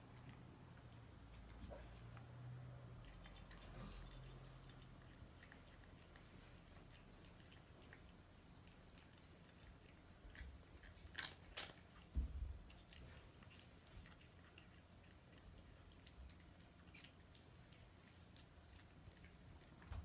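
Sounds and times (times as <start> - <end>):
cat crunching dry kibble: 3.0 - 19.9.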